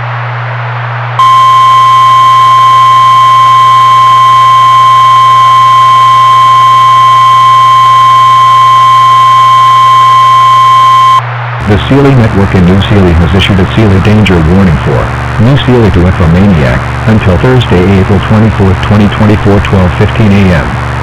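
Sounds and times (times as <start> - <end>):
static hiss with low hum: 1.2 - 21.0.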